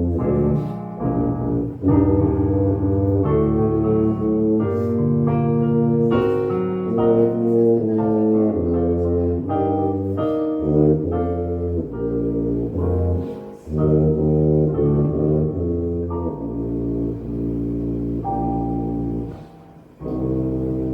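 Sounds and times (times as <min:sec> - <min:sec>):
piano: 0:00.0 - 0:20.9
tuba playing low notes: 0:00.0 - 0:20.9.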